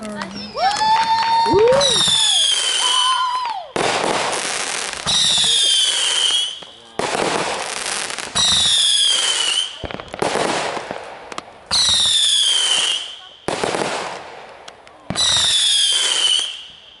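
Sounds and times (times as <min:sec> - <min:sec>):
fireworks hissing and crackling: 0:00.0 - 0:17.0
whistling fireworks: 0:00.2 - 0:11.0, 0:11.7 - 0:17.0.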